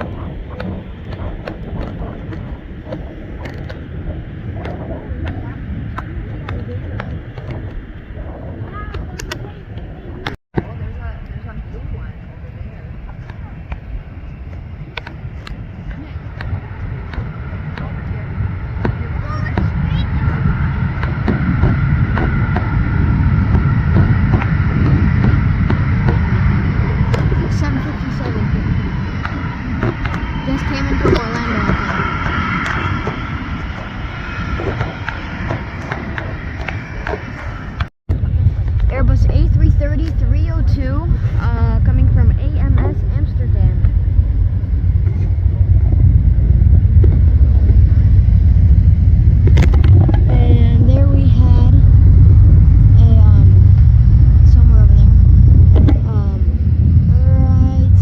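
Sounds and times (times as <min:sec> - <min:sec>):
jet engines rumbling with whine: 0:00.0 - 0:58.0
wind buffeting microphone: 0:00.0 - 0:58.0.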